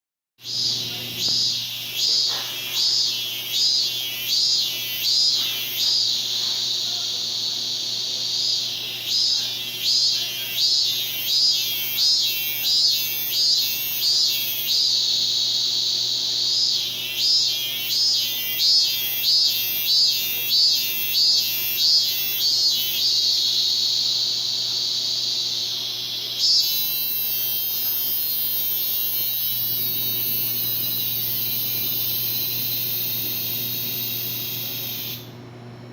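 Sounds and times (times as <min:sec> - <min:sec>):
cicada buzzing: 0:00.4 - 0:35.4
faint electrical hum: 0:00.4 - 0:35.9.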